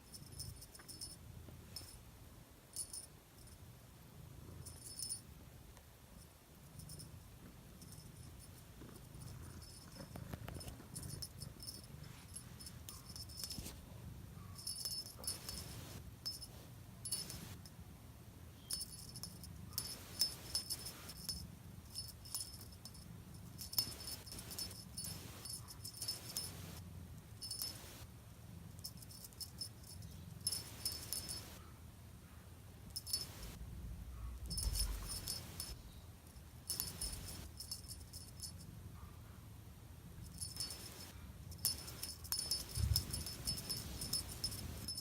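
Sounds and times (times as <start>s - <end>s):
small bell jingling: 0.0s - 2.0s, 2.7s - 3.6s, 4.5s - 5.3s, 6.2s - 13.8s, 14.4s - 17.7s, 18.6s - 26.8s, 27.4s - 31.6s, 32.9s - 33.6s, 34.3s - 38.8s, 40.2s - 45.0s.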